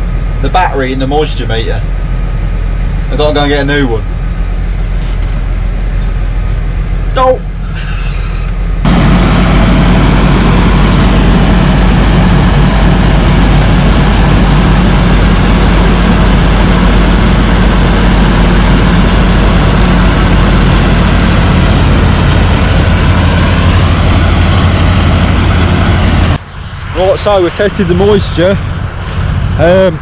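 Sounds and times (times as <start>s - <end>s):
diesel engine running loudly: 0.0s - 30.0s.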